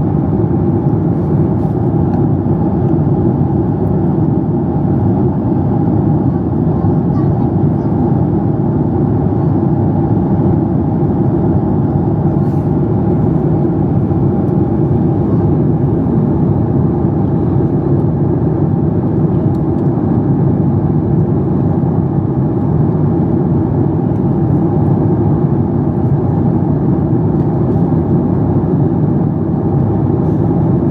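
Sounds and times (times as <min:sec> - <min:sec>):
airplane cabin engine rumble: 0:00.0 - 0:30.9.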